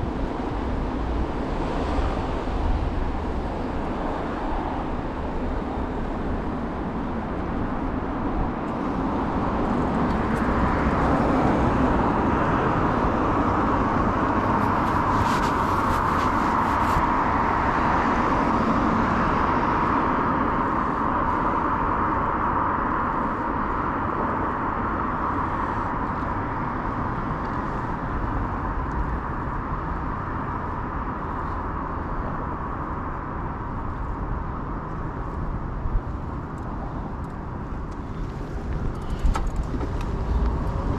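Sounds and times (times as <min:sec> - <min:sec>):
passing cars rushing: 0:00.0 - 0:40.9.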